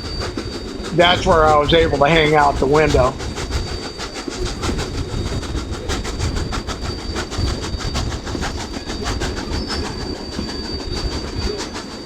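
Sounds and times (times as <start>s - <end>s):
steam locomotive chugging: 0.0s - 12.0s
thin steady high tone: 0.0s - 12.0s.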